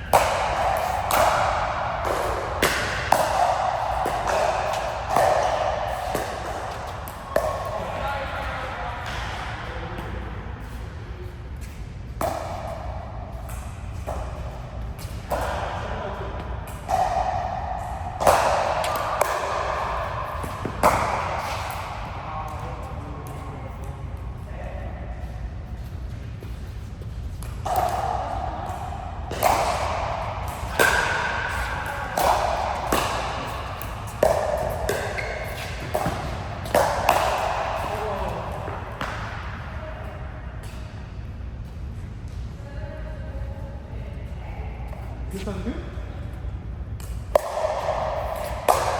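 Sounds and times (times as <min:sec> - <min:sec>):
ball strikes echoing in hall: 0:00.0 - 0:48.9.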